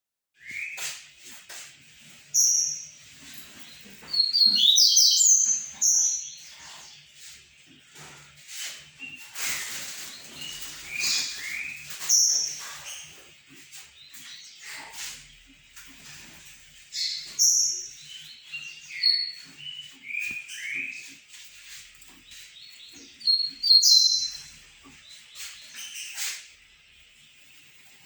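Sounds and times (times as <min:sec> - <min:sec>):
songbird singing: 0:02.2 - 0:28.0.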